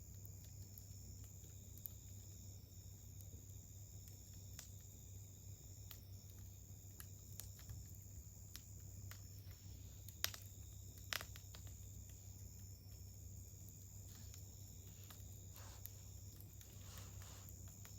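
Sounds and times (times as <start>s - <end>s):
campfire crackling: 0.0s - 17.9s
crickets chirping: 0.0s - 17.9s.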